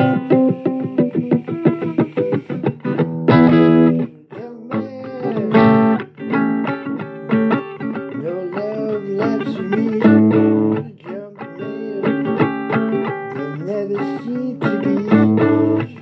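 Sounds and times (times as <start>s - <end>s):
blues electric guitar: 0.0s - 16.0s.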